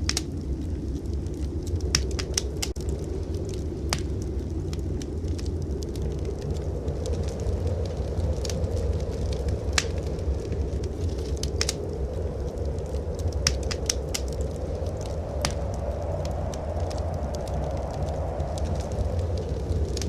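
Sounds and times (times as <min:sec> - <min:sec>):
low rumble of blizzard wind: 0:00.0 - 0:20.0
wood fire crackling: 0:00.0 - 0:20.0.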